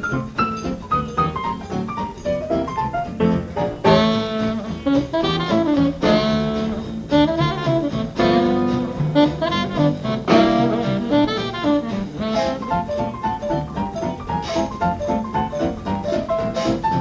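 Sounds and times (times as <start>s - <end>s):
instrumental jazz music: 0.0s - 17.0s.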